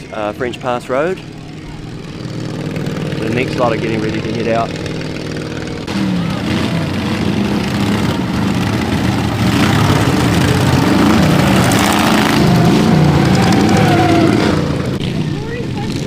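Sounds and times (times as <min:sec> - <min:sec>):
lawnmower engines revving: 0:00.0 - 0:16.0.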